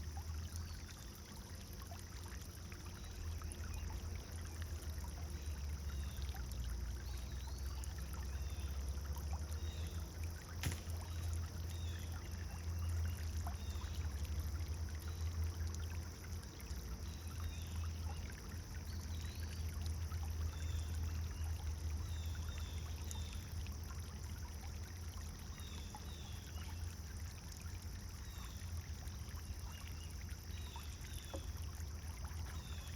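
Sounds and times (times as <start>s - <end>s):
fountain water splashing: 0.0s - 32.9s.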